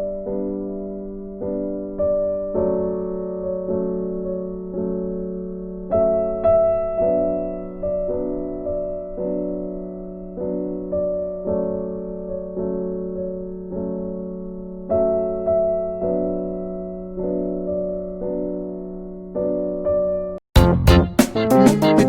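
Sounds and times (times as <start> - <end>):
gentle electric piano chords: 0.0 - 20.4.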